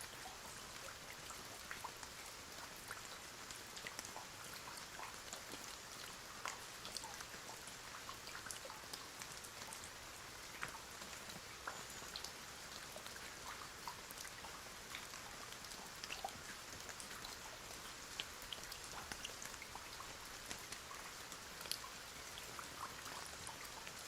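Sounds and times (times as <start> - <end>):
raindrops ticking on a surface: 0.0 - 24.0
steady rain hiss: 0.0 - 24.0.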